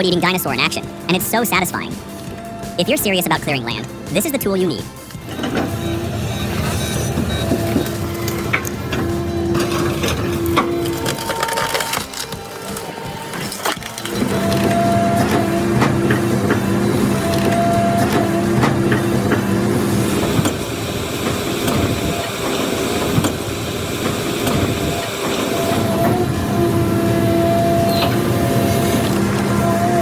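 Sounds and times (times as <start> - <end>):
machine engine running: 0.0 - 30.0.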